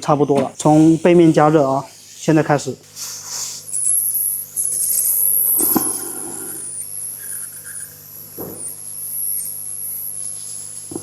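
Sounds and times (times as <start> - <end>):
hot-air station whistling hiss: 0.6 - 11.0.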